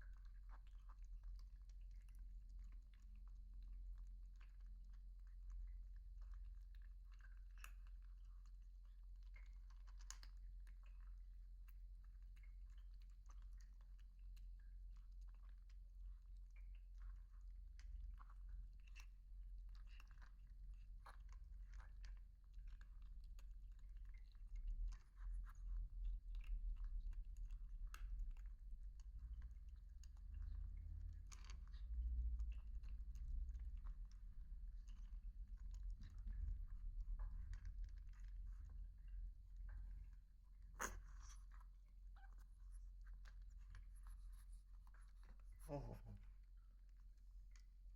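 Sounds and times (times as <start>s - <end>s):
animals chewing and crunching: 0.0s - 47.9s.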